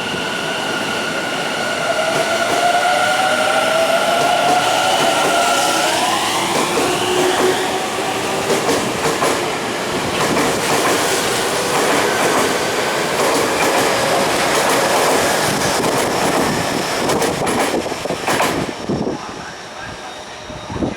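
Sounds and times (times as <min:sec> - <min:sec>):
train wheels rolling on rails: 0:00.2 - 0:20.9.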